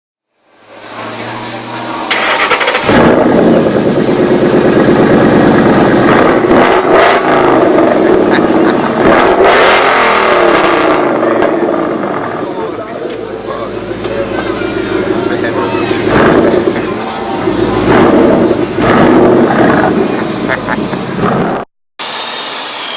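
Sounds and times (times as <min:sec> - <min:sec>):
car engine revving on dyno: 0:00.6 - 0:12.7, 0:13.7 - 0:22.9.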